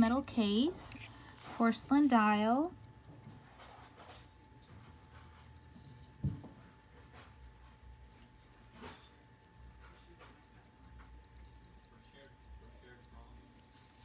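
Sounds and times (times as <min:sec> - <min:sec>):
pocket watch ticking: 0:00.0 - 0:14.0.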